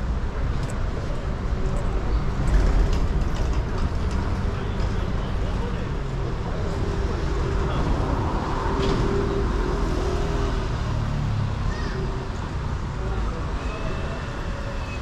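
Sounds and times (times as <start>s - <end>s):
passing cars rumble: 0.0s - 15.0s.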